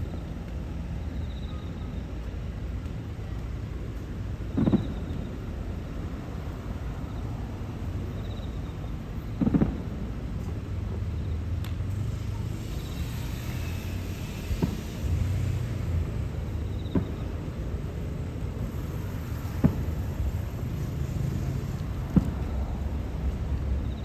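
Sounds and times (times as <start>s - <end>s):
fireworks bursting with sharp bangs: 3.4s - 23.9s.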